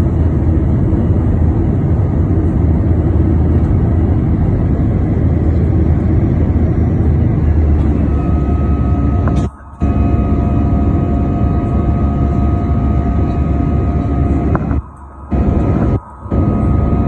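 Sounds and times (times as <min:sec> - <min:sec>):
faint engine whine: 0:00.0 - 0:17.0
jet engine rumble in cabin: 0:00.0 - 0:17.0.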